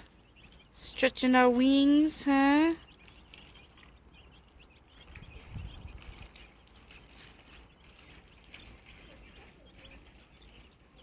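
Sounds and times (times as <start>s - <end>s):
baby chicks peeping: 0.0s - 11.0s.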